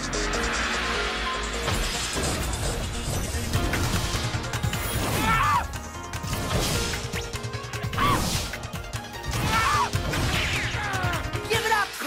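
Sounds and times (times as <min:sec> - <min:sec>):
soundtrack music: 0:00.0 - 0:12.0.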